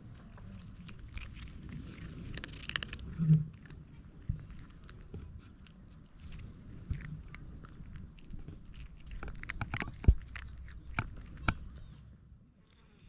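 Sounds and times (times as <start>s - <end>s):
cat chewing food crunching: 0.0s - 13.0s.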